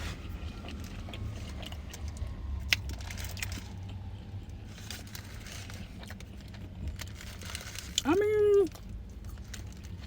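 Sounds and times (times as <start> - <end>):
chewing close to microphone: 0.0 - 10.0.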